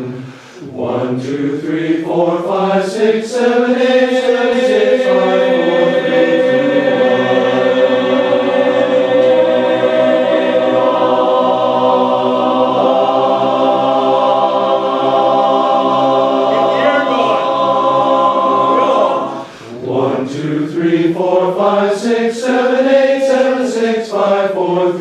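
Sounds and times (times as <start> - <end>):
a cappella chorus singing: 0.0 - 25.0.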